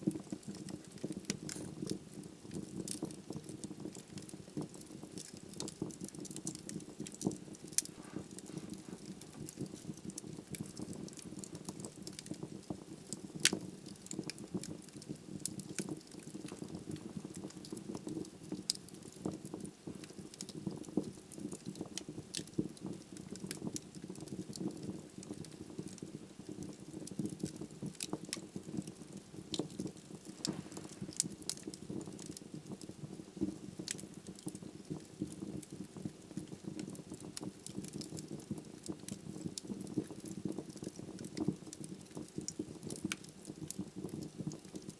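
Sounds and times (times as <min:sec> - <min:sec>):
logs burning with crackles and pops: 0:00.0 - 0:44.9.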